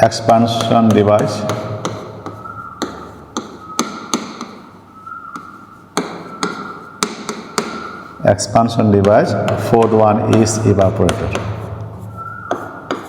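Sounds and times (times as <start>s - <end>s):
pen tapping while writing: 0.2s - 4.7s, 5.3s - 8.1s, 8.9s - 13.0s.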